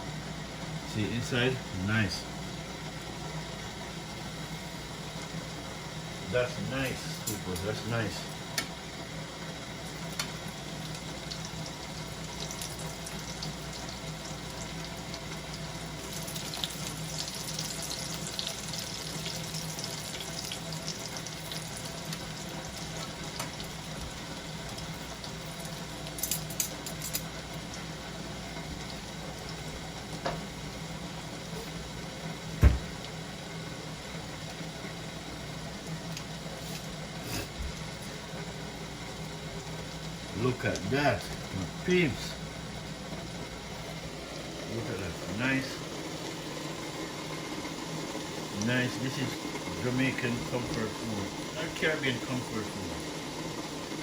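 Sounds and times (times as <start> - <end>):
frying in hot oil: 0.0 - 54.0.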